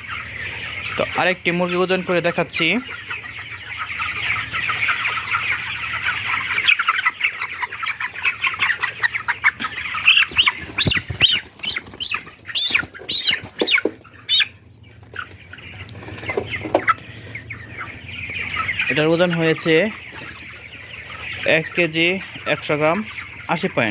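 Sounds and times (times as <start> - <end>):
chicken squawking: 0.0 - 23.9
chickens peeping and chattering: 0.0 - 23.9.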